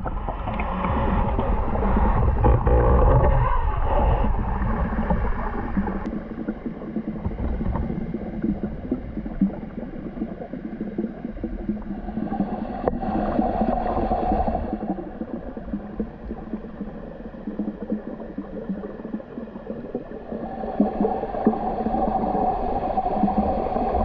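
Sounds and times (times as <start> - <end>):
water gurgling and bubbling: 0.0 - 24.0.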